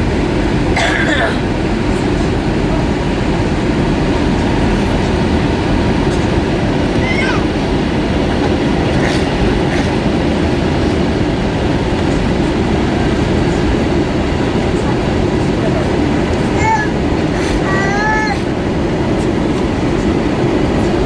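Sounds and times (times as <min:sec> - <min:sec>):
airplane cabin roar: 0:00.0 - 0:21.0.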